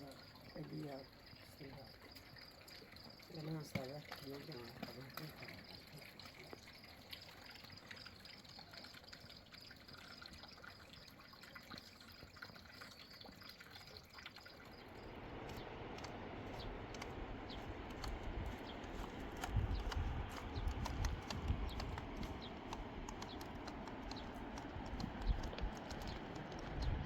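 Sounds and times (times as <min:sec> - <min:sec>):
river water running: 0:00.0 - 0:27.0
water drips and splashes: 0:00.0 - 0:27.0.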